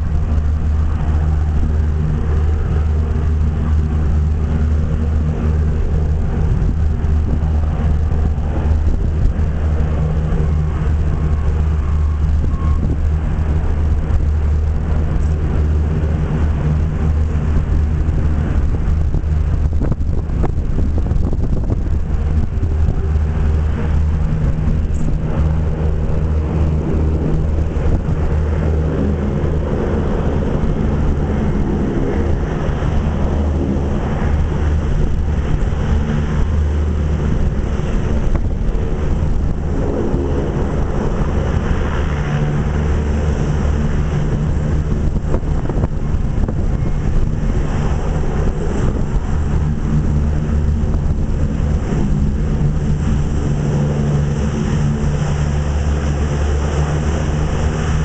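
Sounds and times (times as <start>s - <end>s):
hovercraft droning hum: 0.0s - 58.0s.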